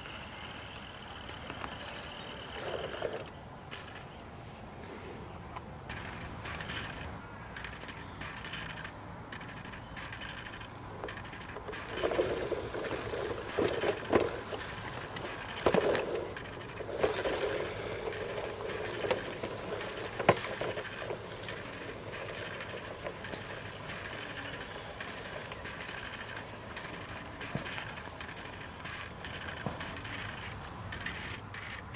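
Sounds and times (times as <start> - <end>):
model train wheels rumbling on rails: 0.0 - 4.1, 5.9 - 31.9
sharp rail clicks: 0.0 - 4.3, 5.6 - 31.9.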